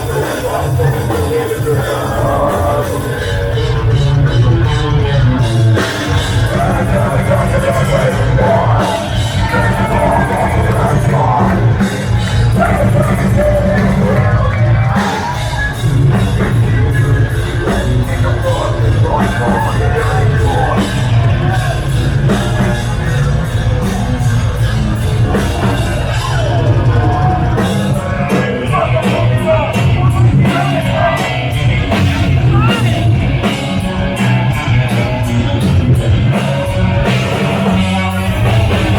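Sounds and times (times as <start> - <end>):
heavy metal band playing live: 0.0 - 38.9
shouted vocals: 6.2 - 38.8.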